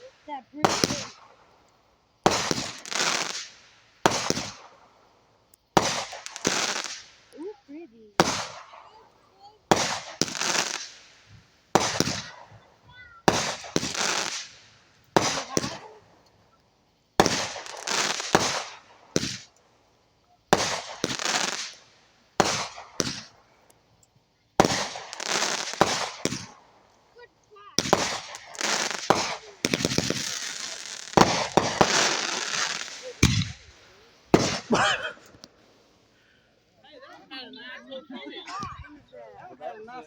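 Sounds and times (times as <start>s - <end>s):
fireworks bangs and pops: 0.0s - 36.1s
fireworks crackling hiss: 0.0s - 40.0s.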